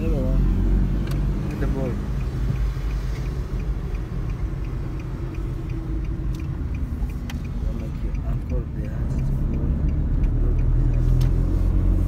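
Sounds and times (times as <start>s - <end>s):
car engine and tyres rumbling: 0.0s - 12.0s
turn signal ticking: 0.0s - 12.0s.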